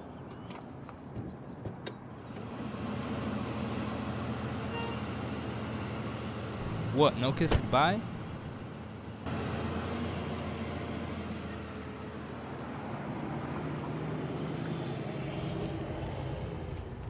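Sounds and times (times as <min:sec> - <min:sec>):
road traffic rushing: 0:02.0 - 0:17.0
low engine hum: 0:02.2 - 0:17.0.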